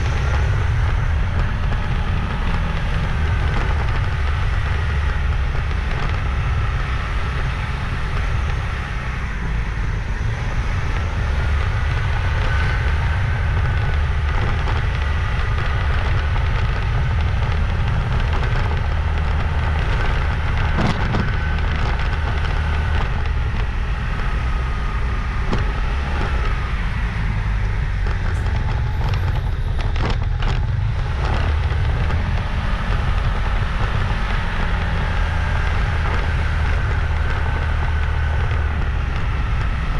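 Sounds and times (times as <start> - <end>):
motorbike engine and road noise: 0.0 - 39.9
wind rumble on microphone: 0.0 - 39.9.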